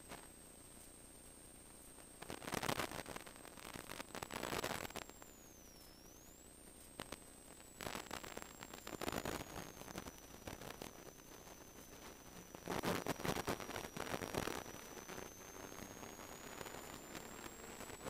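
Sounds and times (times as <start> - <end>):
radio static hiss bursts: 0.0 - 0.4, 1.8 - 18.0
faint high whine: 0.0 - 18.0.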